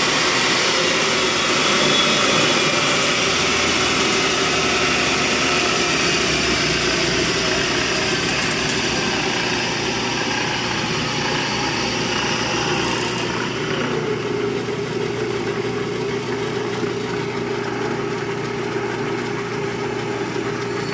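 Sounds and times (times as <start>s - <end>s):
drill press motor humming: 0.0s - 20.9s.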